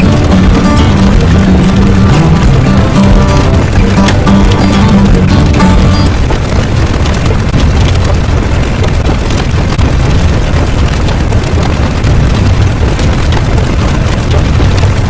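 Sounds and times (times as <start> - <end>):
deep crackling rumble: 0.0 - 15.0.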